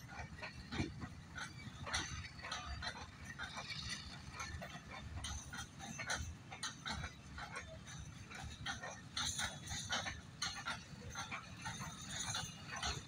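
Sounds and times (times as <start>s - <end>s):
train wagons rumbling: 0.0s - 13.0s.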